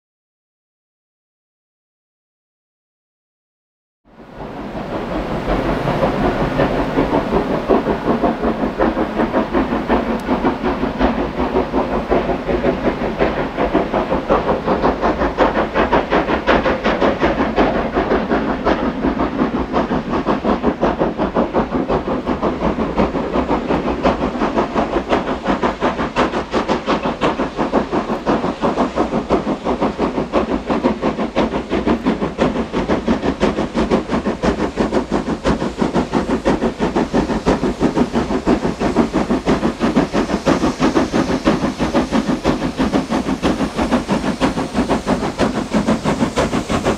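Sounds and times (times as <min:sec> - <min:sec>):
steam locomotive exhaust beats: 0:04.1 - 0:46.9
steam hissing: 0:04.2 - 0:46.9.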